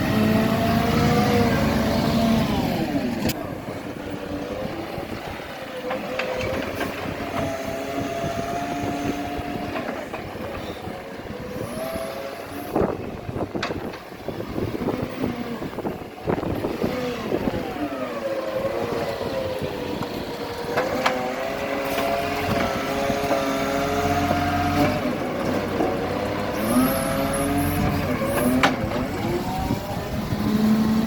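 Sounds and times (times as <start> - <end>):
garbage truck engine running: 0.0 - 31.0.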